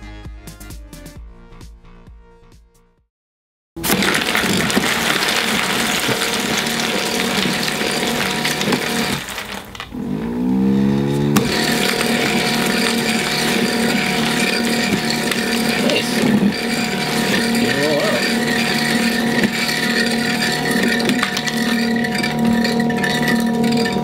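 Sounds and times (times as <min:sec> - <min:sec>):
stepper motor running: 0:03.9 - 0:24.0.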